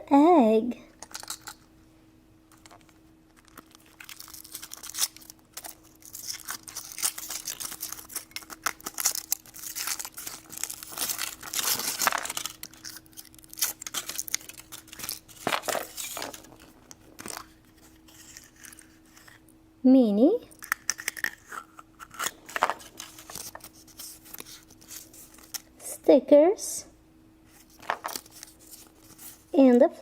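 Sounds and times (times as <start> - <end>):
foil wrapper crinkling and tearing: 1.0 - 1.6, 2.5 - 19.4, 20.6 - 25.7, 27.5 - 29.5.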